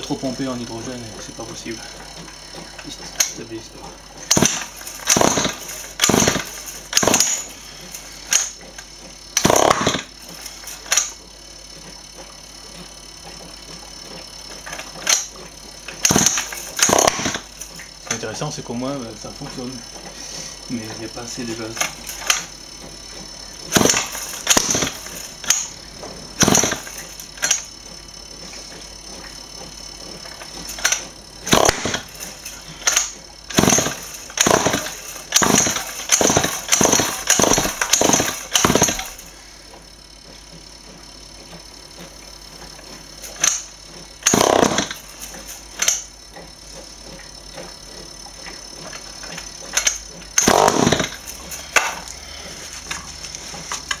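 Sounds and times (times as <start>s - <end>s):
small engine cranking and sputtering: 0.0s - 54.0s.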